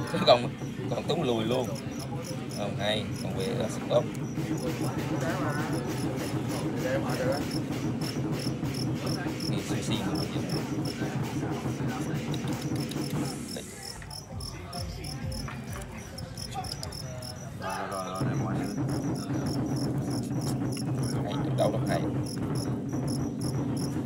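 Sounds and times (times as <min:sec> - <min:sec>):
crickets chirping: 0:00.0 - 0:11.2, 0:12.3 - 0:24.0.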